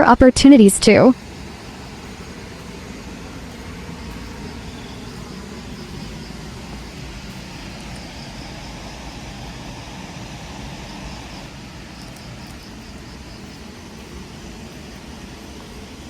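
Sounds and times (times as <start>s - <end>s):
waterfall roaring: 0.9s - 16.0s
high chirping trill: 1.0s - 15.2s.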